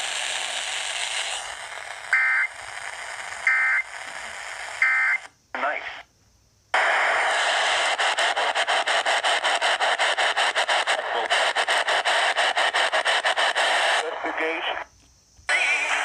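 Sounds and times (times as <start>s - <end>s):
loud radio static: 0.1s - 6.1s, 6.8s - 14.9s, 15.5s - 16.0s.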